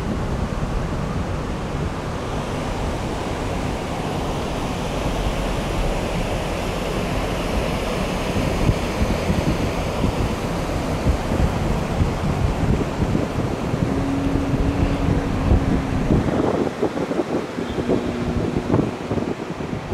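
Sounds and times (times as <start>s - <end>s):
river rushing over rocks: 0.0s - 19.9s
wind buffeting microphone: 0.0s - 19.9s.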